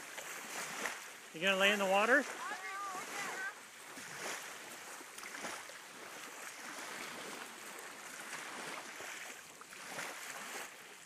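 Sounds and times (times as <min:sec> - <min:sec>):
small waves lapping at beach: 0:00.0 - 0:11.0.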